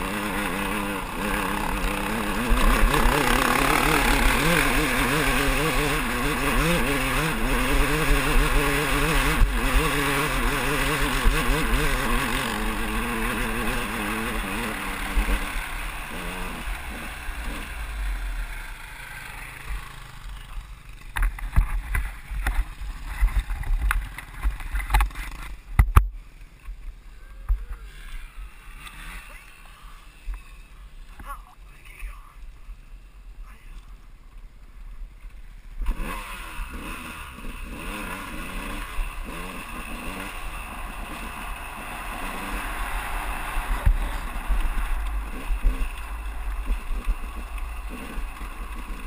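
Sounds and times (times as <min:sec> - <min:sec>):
dirt bike engine revving: 0:00.0 - 0:25.6, 0:27.7 - 0:31.4, 0:35.8 - 0:49.0.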